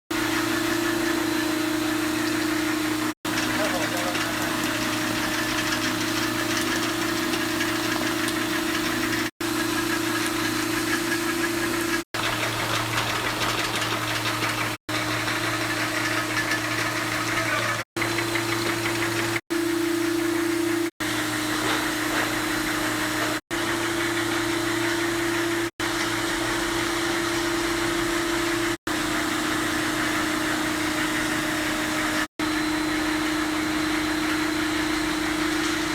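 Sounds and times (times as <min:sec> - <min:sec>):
machine hum: 0:00.1 - 0:35.9.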